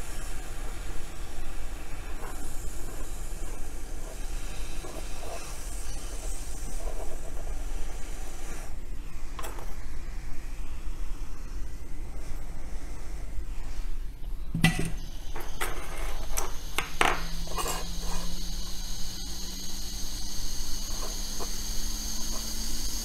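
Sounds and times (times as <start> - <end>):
faint rising whine: 0.0 - 23.0
low electrical hum: 0.0 - 23.0.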